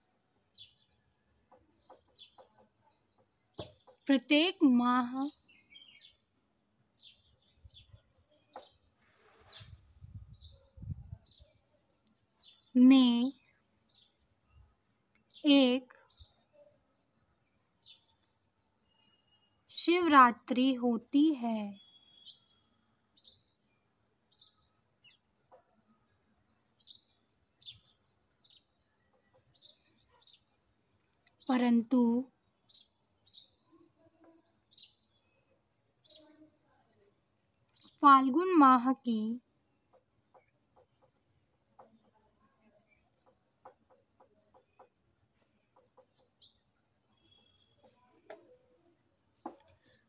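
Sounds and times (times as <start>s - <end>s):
faint bird chirps: 0.0s - 20.1s, 21.6s - 50.0s.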